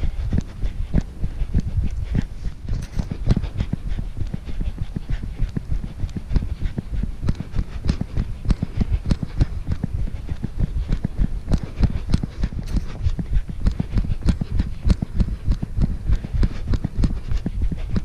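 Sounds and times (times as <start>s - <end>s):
person panting: 0.0s - 18.0s.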